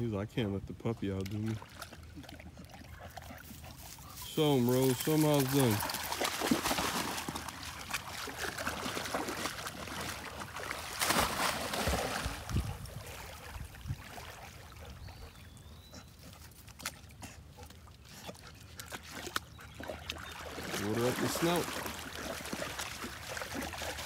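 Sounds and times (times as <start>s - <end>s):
dogs splashing in water: 1.1s - 24.0s.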